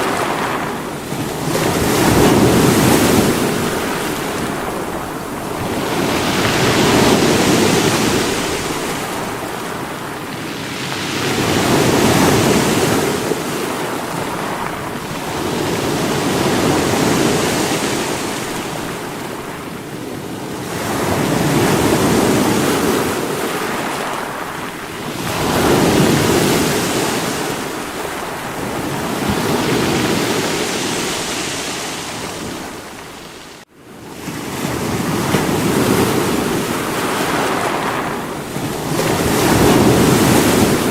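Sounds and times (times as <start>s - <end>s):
sea waves breaking on rocks: 0.0s - 33.6s, 34.2s - 40.9s.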